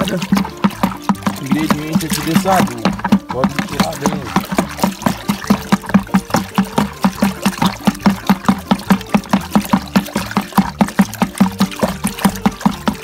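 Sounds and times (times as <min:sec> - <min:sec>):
bar stirring liquid in bucket: 0:00.0 - 0:13.0
liquid sloshing: 0:00.0 - 0:13.0.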